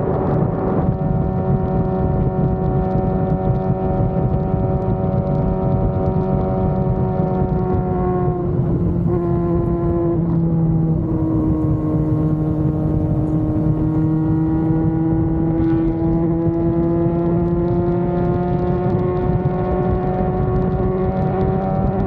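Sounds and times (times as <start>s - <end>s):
motorcycle engine cruising: 0.0s - 22.0s.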